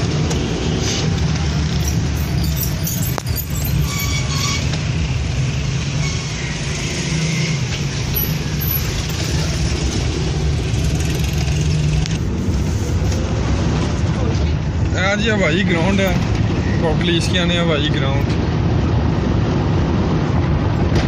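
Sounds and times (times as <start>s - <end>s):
car engine and tyres rumbling: 0.0s - 21.0s
faint traffic: 0.0s - 21.0s.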